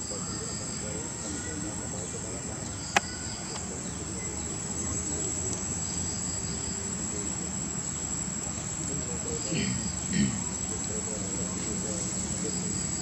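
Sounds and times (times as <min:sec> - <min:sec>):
pulsing insect chirr: 0:00.0 - 0:13.0.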